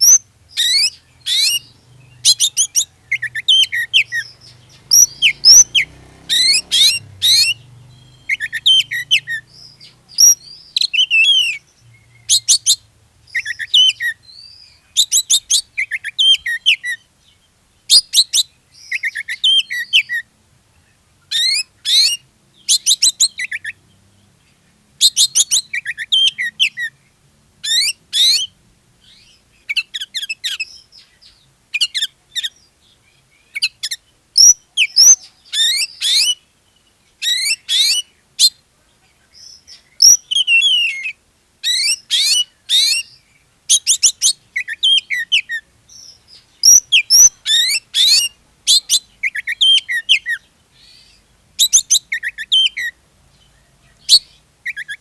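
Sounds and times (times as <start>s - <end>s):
bird song with whistled notes: 0.0s - 55.0s.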